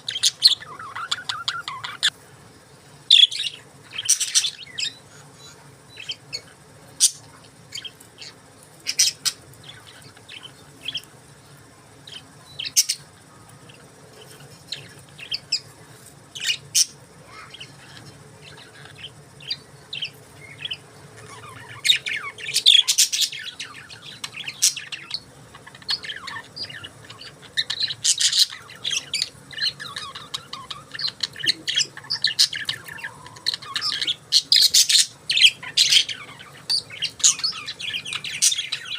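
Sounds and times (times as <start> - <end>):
budgerigars chirping and chattering: 0.0 - 2.1, 3.1 - 11.1, 12.0 - 38.9.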